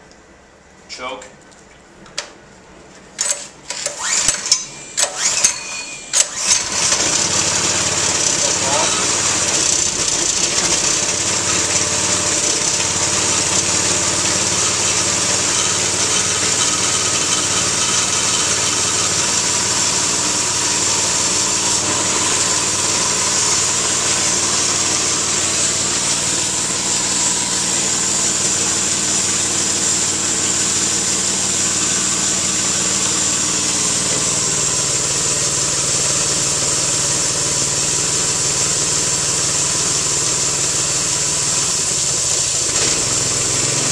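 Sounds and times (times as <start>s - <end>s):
air compressor pump: 3.2s - 43.9s
engine running above idle: 6.4s - 43.9s.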